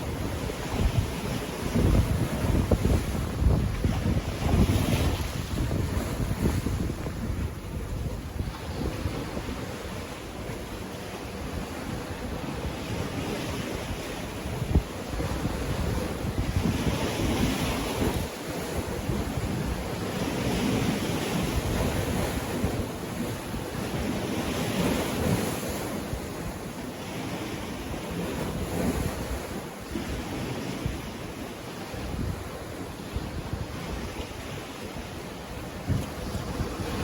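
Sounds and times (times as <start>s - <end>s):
sea waves breaking on beach: 0.0s - 37.0s
wind rumbling on microphone: 0.0s - 37.0s.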